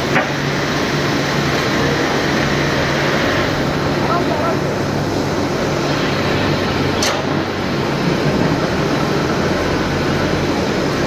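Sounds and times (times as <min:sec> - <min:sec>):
machinery droning: 0:00.0 - 0:11.0.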